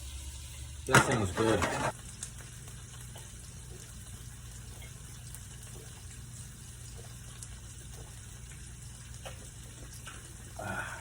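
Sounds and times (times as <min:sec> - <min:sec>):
fish simmering in a pan: 0:00.0 - 0:11.0.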